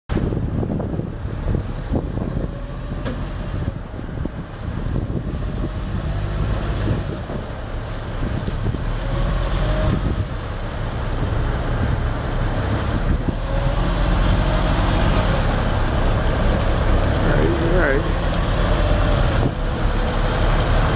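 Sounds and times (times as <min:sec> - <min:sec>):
diesel truck engine running: 0:00.1 - 0:20.9.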